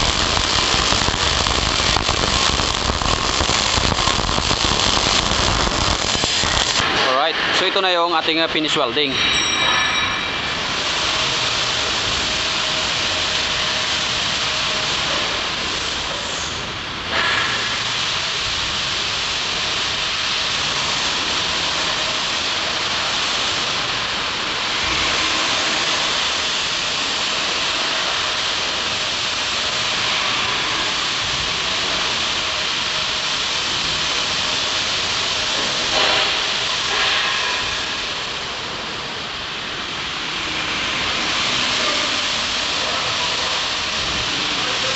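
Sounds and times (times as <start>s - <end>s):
shop background hiss: 0.0s - 44.9s.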